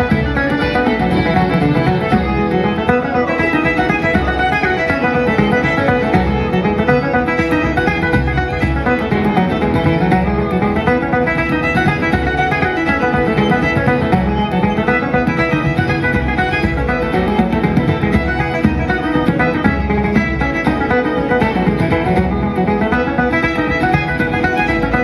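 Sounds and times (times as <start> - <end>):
traditional band playing a fast reel: 0.0 - 25.0.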